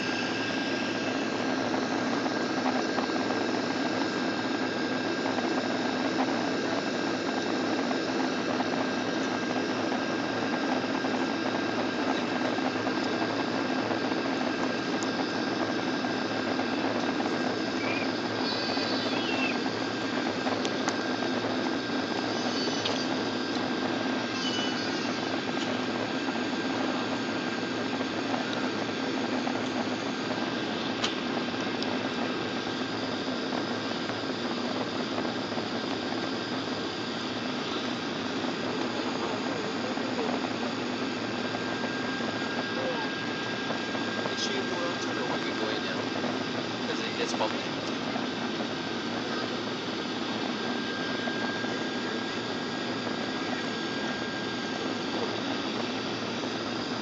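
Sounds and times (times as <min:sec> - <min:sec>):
jet engine cabin noise: 0:00.0 - 0:57.0
thin steady whine: 0:00.0 - 0:57.0.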